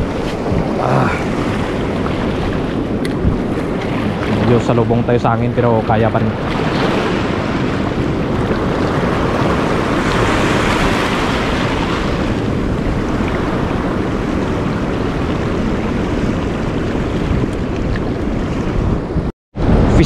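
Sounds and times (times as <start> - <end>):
waves washing over rocks: 0.0 - 19.0
wind buffeting microphone: 0.0 - 20.0.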